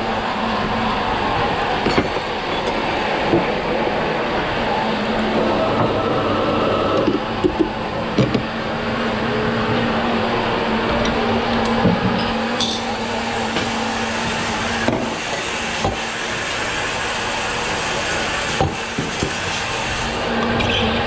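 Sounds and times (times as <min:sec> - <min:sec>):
espresso machine hum: 0:00.0 - 0:21.0.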